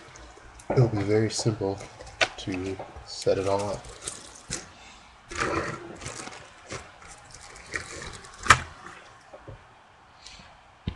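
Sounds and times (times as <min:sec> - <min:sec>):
plastic bags crinkling: 0:00.0 - 0:09.4.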